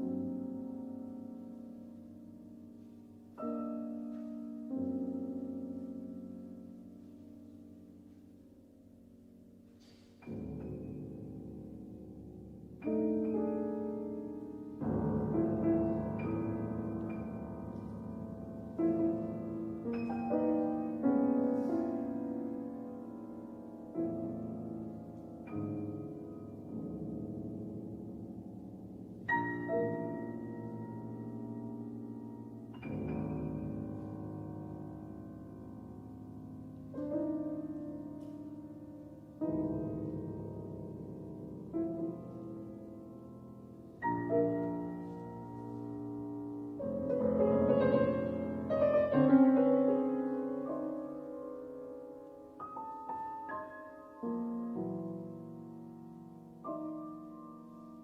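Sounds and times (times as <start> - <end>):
slow solo piano chords: 0.0 - 58.0.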